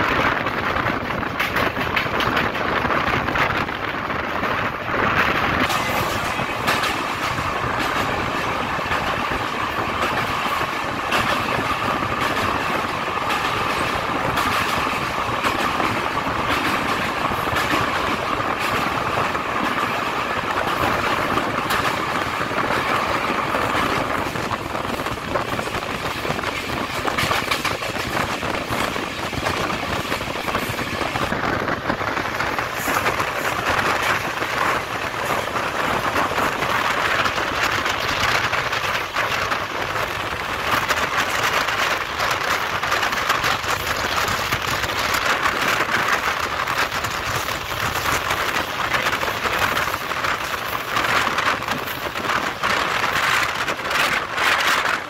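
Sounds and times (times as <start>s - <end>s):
train wheels rushing on rails: 0.0s - 55.0s.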